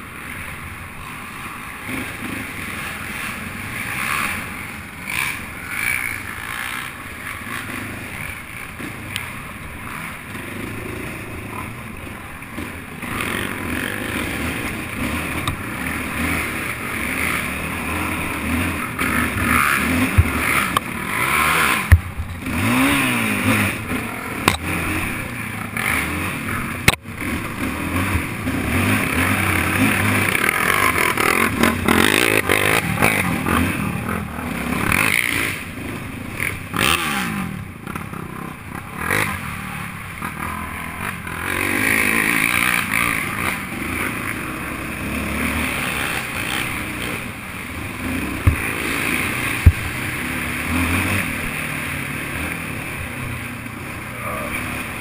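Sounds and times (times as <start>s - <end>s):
quad engine revving: 1.8s - 55.0s.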